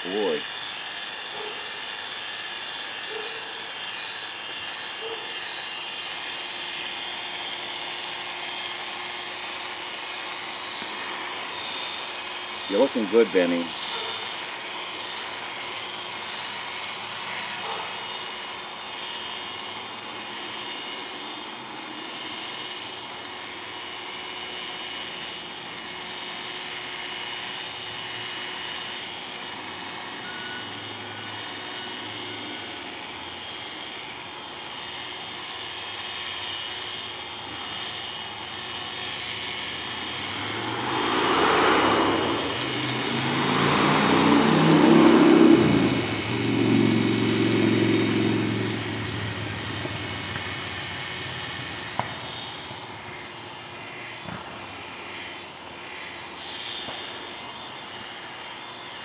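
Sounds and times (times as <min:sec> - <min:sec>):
electric clippers humming: 0:00.0 - 0:59.0
loud engine-like sound: 0:00.0 - 0:59.0.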